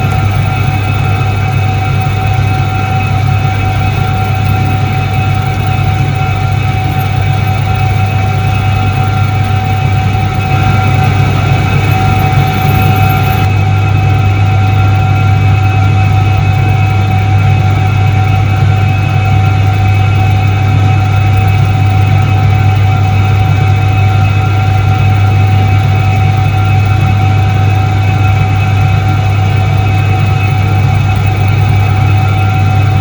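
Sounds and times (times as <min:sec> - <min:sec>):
thin constant whine: 0:00.0 - 0:33.0
washing machine motor hum: 0:00.0 - 0:33.0.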